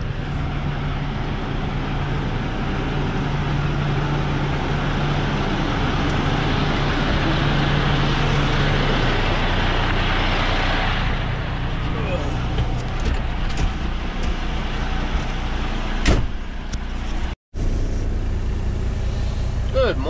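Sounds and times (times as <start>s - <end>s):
truck engines idling: 0.0s - 20.0s.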